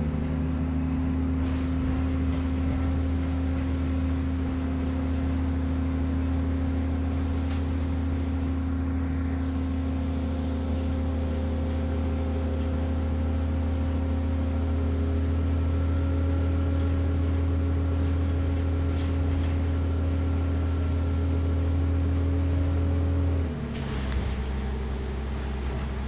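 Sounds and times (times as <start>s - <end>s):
bus engine hum: 0.0s - 26.0s.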